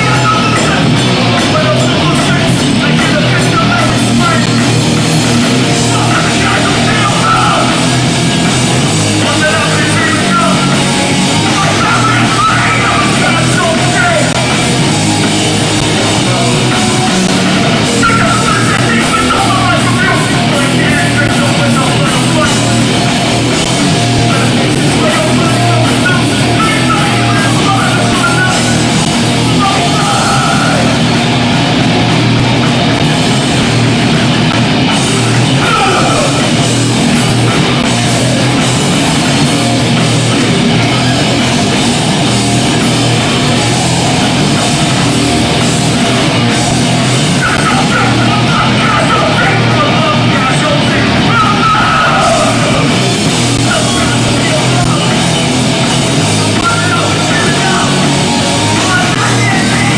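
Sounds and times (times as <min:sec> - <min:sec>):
distorted guitar: 0:00.0 - 0:59.9
drums: 0:00.0 - 0:59.9
punk band playing live: 0:00.0 - 0:59.9
vocals: 0:00.0 - 0:59.9.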